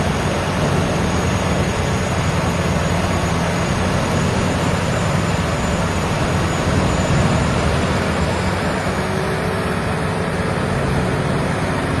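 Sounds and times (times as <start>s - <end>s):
wood chipper running: 0.0s - 12.0s.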